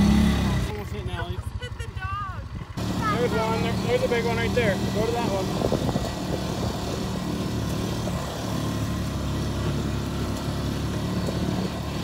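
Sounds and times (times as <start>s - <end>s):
utility vehicle engine humming: 0.0s - 12.0s.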